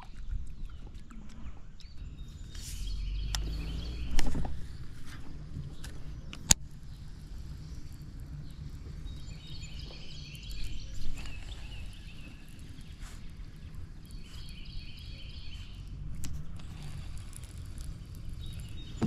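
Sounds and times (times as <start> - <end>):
songbird singing trilled phrases: 0.0 - 16.0, 17.7 - 19.0
steady low rumble: 0.0 - 19.0.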